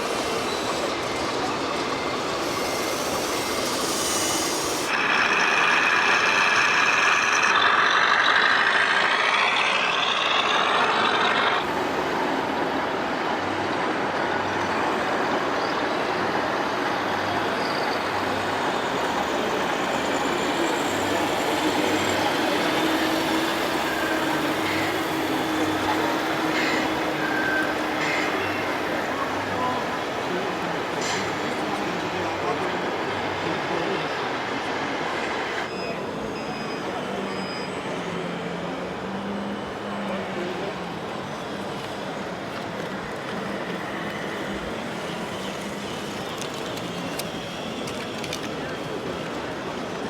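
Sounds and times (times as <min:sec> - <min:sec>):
busy hall noise: 0:00.0 - 0:50.0
model truck engine sounds: 0:00.0 - 0:50.0.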